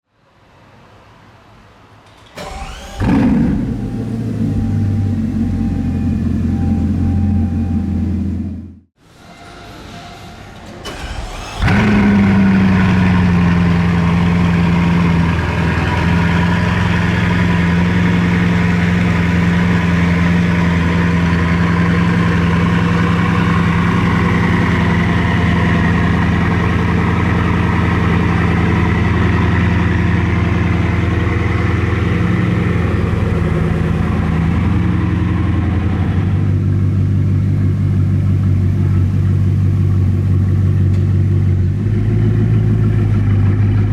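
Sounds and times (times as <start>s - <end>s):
car engine starting and idling: 2.4s - 9.0s, 10.8s - 43.9s.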